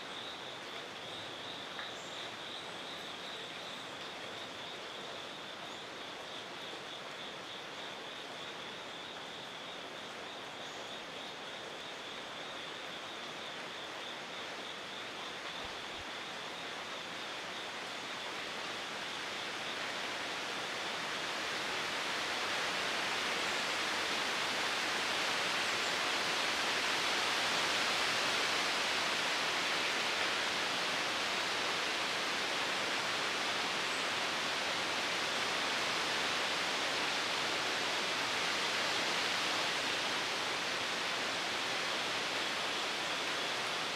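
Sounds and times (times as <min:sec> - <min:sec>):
outdoor ambient hiss: 0:00.0 - 0:43.9.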